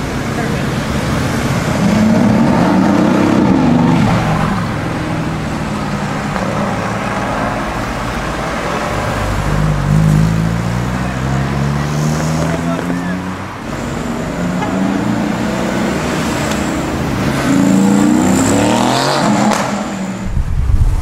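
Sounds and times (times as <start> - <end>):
car engines accelerating: 0.0 - 20.4
road noise: 0.0 - 21.0.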